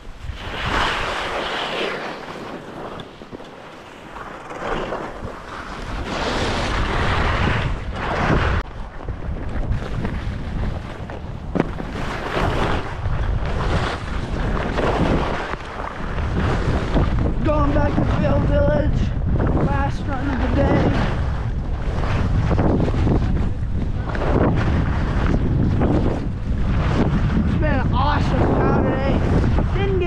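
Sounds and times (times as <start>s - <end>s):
skis scraping over snow: 0.0s - 18.8s, 19.5s - 30.0s
wind rumble on microphone: 0.0s - 30.0s.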